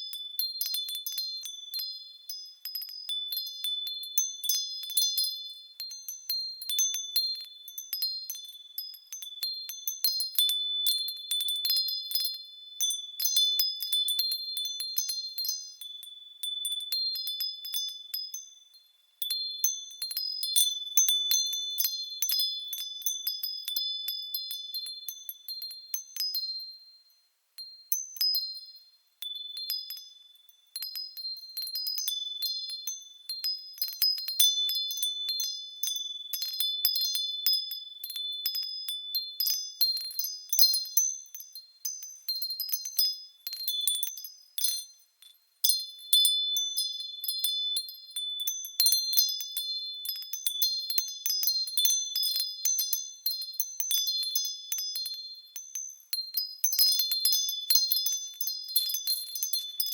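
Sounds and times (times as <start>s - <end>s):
wind chimes tinkling: 0.0s - 59.9s.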